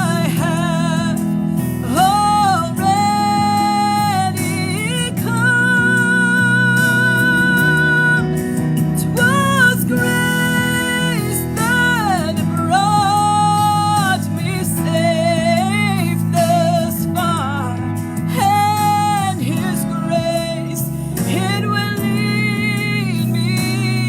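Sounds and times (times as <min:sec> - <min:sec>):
instrumental accompaniment: 0:00.0 - 0:24.0
person singing: 0:00.0 - 0:24.0.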